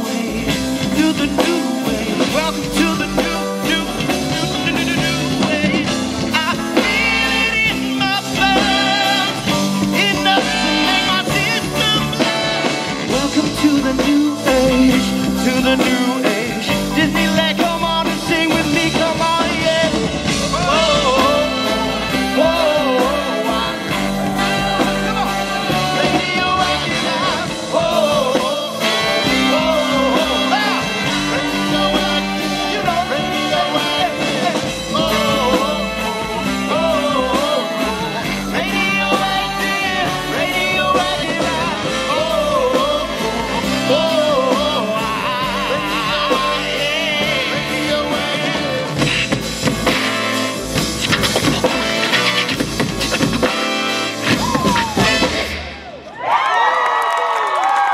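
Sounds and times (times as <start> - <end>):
person singing: 0.0 - 49.5
swing band playing: 0.0 - 56.1.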